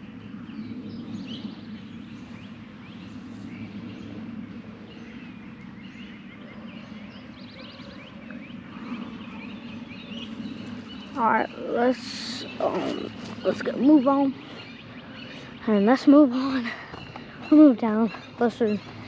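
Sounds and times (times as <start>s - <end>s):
birds chirping: 0.0s - 19.0s
low background rumble: 0.0s - 19.0s.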